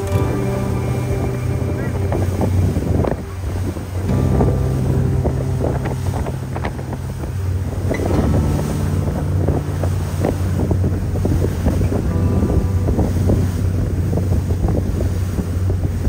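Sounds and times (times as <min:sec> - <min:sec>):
ferry engines humming: 0:00.0 - 0:16.0
water rushing along hull: 0:00.0 - 0:16.0
wind buffeting microphone: 0:00.0 - 0:16.0.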